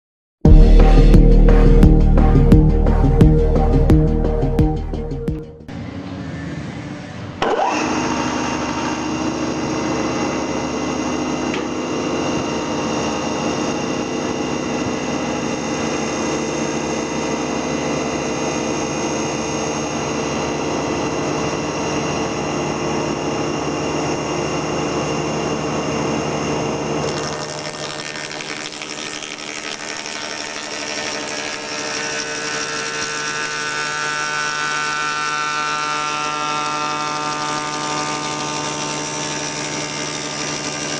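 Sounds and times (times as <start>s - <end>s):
milling machine whining: 0.5s - 40.9s.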